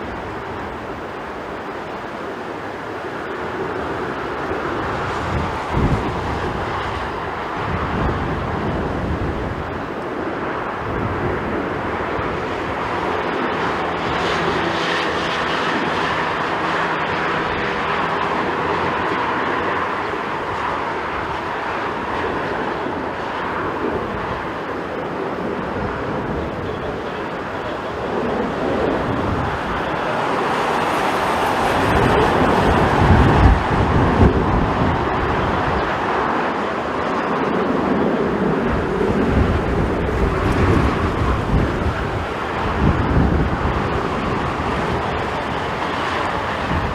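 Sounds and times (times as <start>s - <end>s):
jet engines roaring: 0.0s - 46.9s
wind buffeting microphone: 0.0s - 46.9s.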